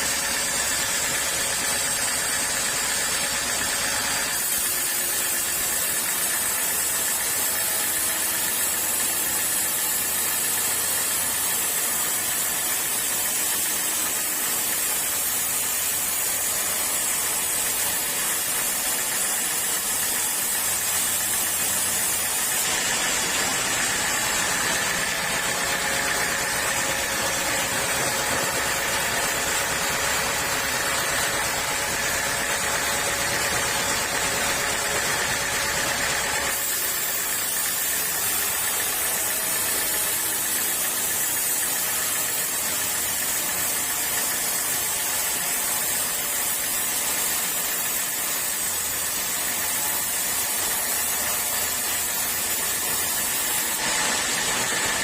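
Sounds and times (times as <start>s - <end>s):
sawmill saw cutting wood: 0.0s - 55.0s.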